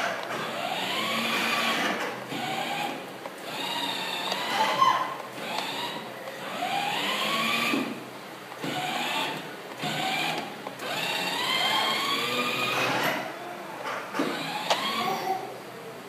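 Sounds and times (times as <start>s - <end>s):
toy car electric motor whining: 0.3s - 8.0s, 8.6s - 13.2s, 14.3s - 15.4s.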